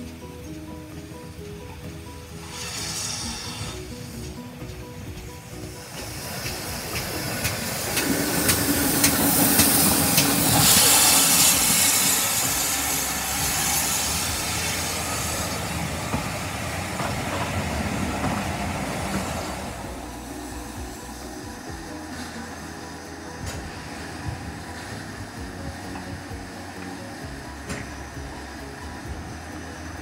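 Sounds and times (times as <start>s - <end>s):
wheels clicking over rail joints: 0.0s - 30.0s
steam hissing: 1.2s - 30.0s.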